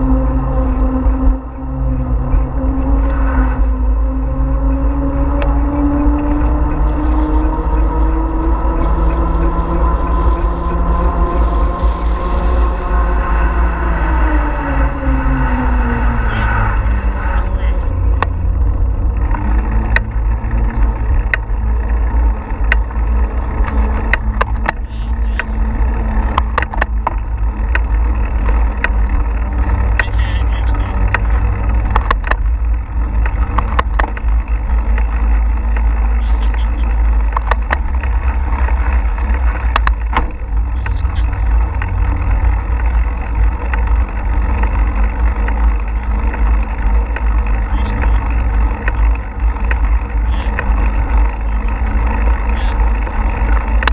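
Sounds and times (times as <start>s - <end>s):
sharp clicks and rattles: 0.0s - 53.9s.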